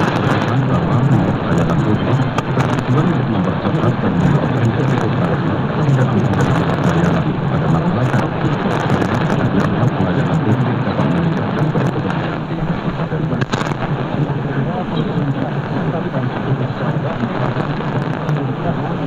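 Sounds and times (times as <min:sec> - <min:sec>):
radio hiss: 0:00.0 - 0:19.0
static crackles: 0:00.0 - 0:19.0.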